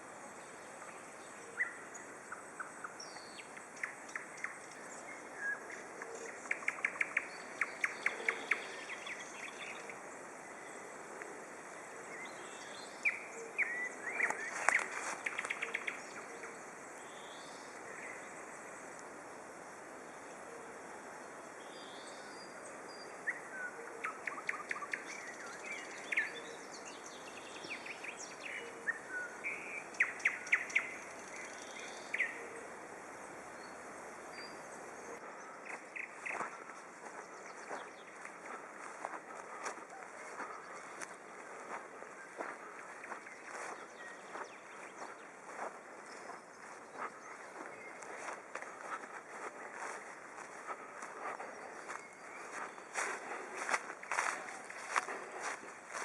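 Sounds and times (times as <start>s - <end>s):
steady background hiss: 0.0s - 56.0s
nightingale singing: 0.5s - 10.9s, 11.9s - 18.4s, 21.6s - 56.0s.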